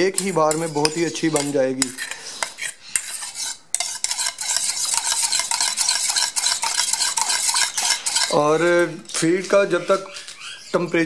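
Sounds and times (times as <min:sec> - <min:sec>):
metal spoon scraping steel bowl: 0:00.0 - 0:10.6.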